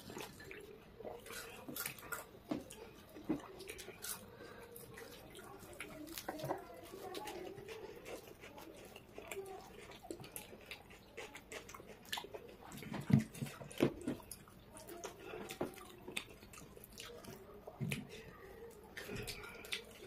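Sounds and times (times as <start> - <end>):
wet chewing and lip smacking: 0.0 - 20.0.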